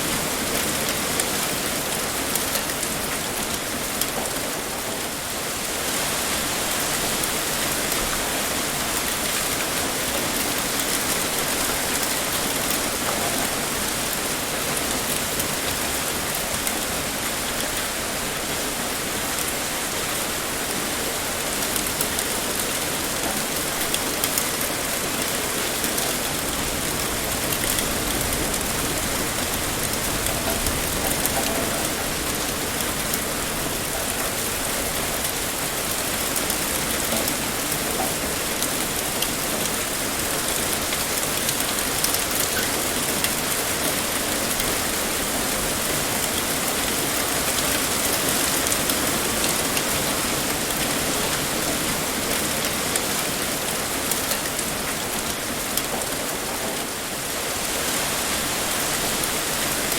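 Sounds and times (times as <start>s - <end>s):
heavy rain pouring: 0.0s - 59.9s
raindrops pattering on surface: 0.0s - 59.9s.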